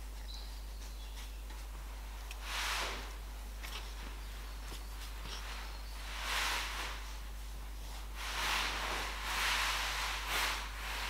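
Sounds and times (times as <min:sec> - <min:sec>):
brush swishing on wet paper: 0:00.8 - 0:11.0.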